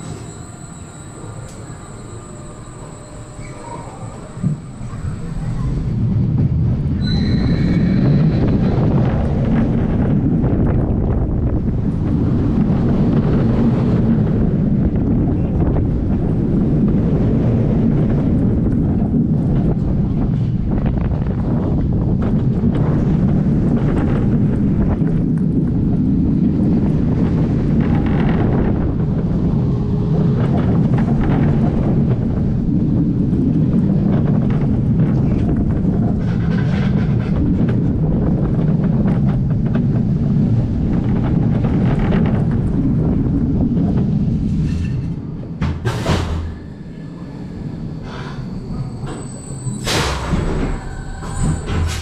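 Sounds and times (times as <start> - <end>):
roller coaster wheel rumble: 0.0 - 52.0
wind rushing over microphone: 4.0 - 52.0.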